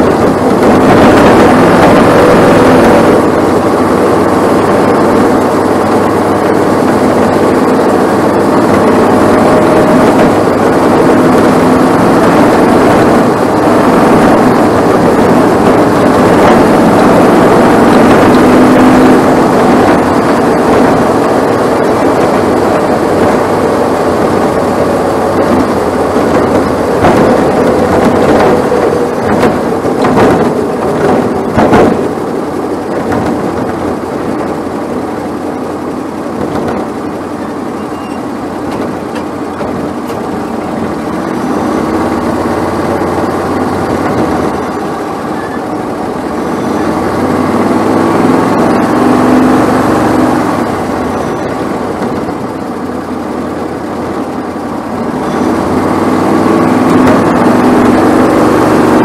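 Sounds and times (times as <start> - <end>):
race car engine droning: 0.0 - 59.0
sharp knocks and rattles: 5.0 - 59.0.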